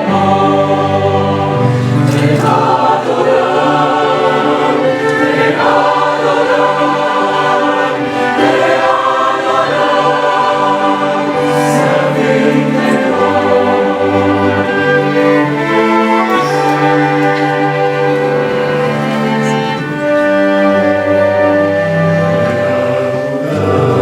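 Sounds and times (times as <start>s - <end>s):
choir singing sustained chords: 0.0s - 24.0s
musical accompaniment: 0.0s - 24.0s.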